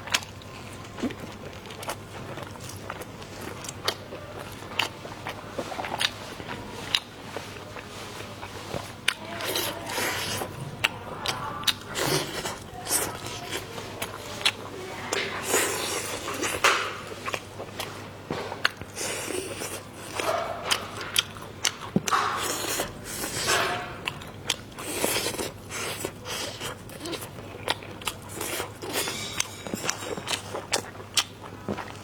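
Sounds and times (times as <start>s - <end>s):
chewing and biting food: 0.0s - 32.0s.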